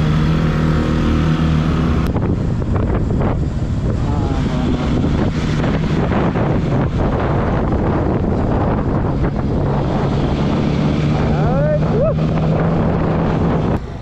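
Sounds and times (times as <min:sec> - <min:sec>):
motorcycle engine running: 0:00.0 - 0:14.0
wind buffeting the microphone: 0:01.8 - 0:14.0.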